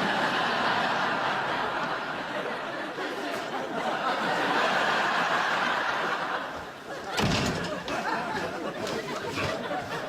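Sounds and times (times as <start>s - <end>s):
studio audience laughing: 0.0s - 10.0s.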